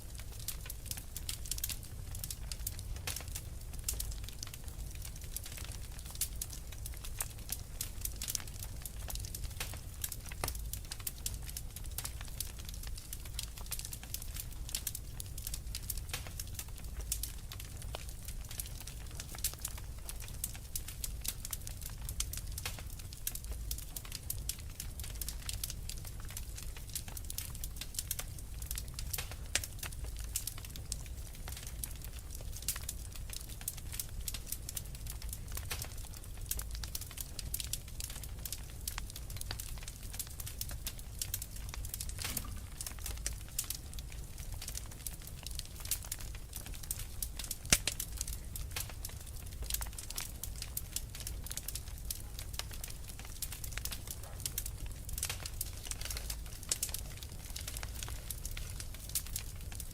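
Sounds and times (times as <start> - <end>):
low rumble of fire: 0.0 - 59.9
wood fire crackling: 0.0 - 59.9.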